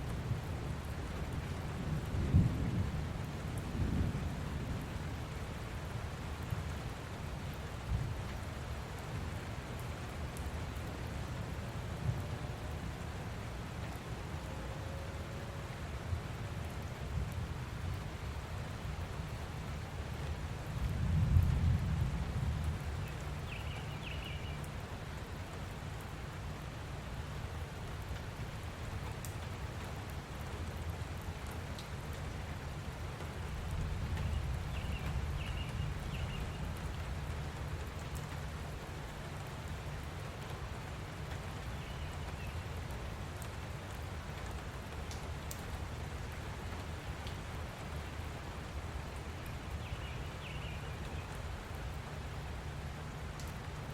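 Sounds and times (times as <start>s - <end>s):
light rain falling: 0.0s - 53.9s
rain drips: 0.0s - 53.9s.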